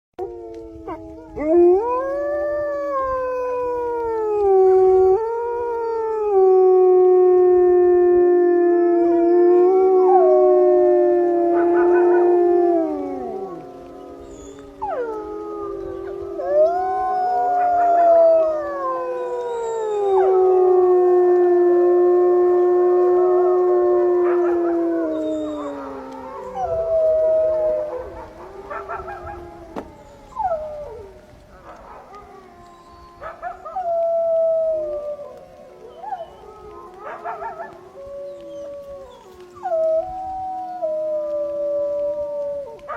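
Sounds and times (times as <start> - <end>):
wolves howling: 0.2 - 42.9.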